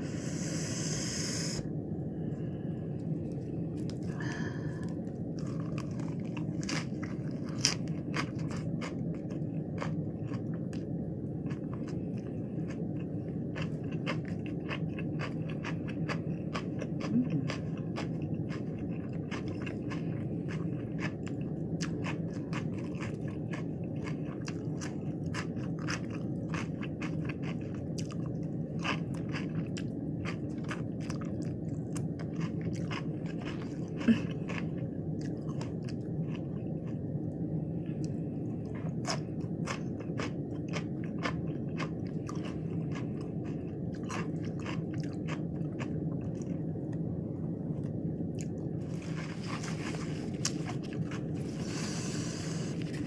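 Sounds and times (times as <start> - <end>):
steady low hum: 0.0 - 53.0
crunchy chewing of lettuce: 3.0 - 46.9, 47.7 - 53.0.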